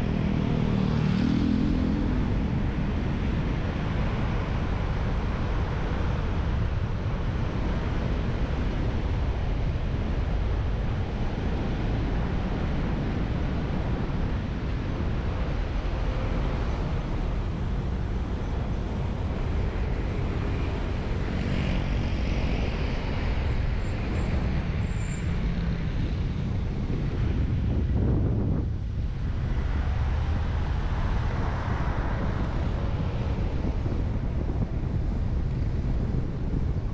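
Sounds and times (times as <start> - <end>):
tyres and engine rumble: 0.0 - 36.9.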